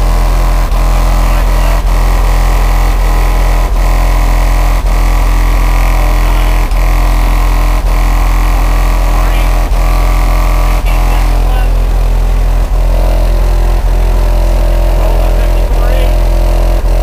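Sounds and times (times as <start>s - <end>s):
distorted deep bass tone from subwoofers: 0.0s - 17.0s.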